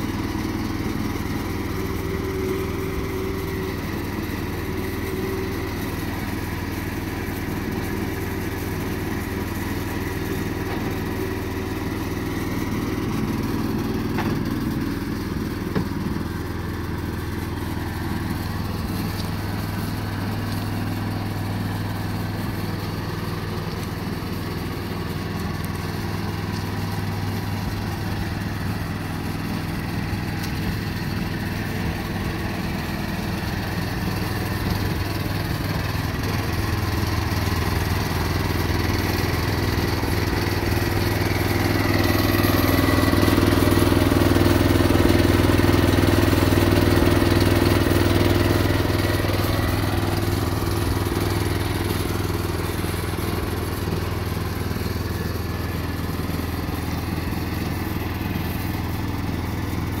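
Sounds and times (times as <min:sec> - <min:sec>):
skid steer engine running: 0:00.0 - 1:00.0.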